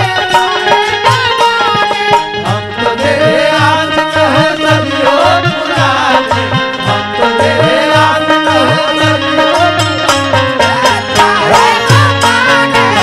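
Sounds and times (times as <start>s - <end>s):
hand drum beat: 0.0s - 13.0s
wavering melody line: 0.0s - 13.0s.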